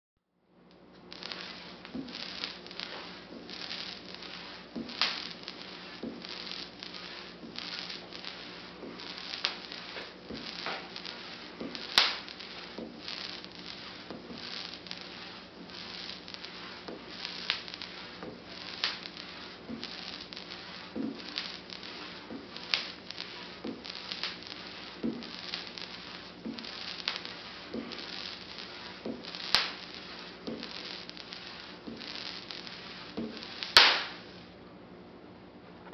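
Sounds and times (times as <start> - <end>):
small crackling electric sparks: 0.7 - 34.6
loud sharp spark cracks: 0.8 - 34.5.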